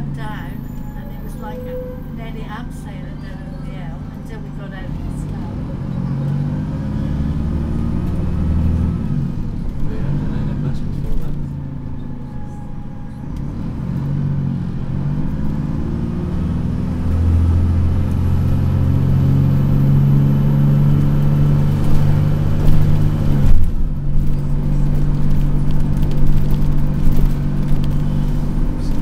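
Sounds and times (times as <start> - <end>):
bus engine working hard: 0.0 - 29.0.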